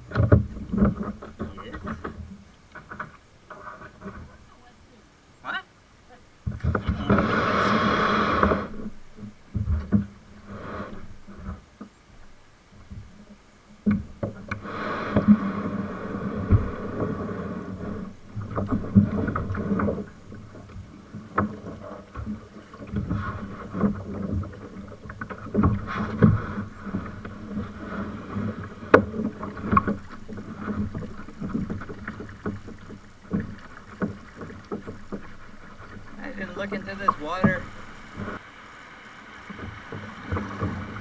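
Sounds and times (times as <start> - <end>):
paddle splashing water: 0.0 - 41.0.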